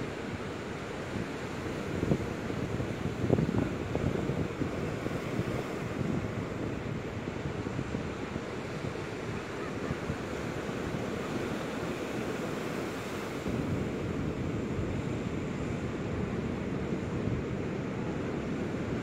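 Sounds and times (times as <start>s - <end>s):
ocean surf on shore: 0.0s - 19.0s
wind on microphone: 0.0s - 19.0s.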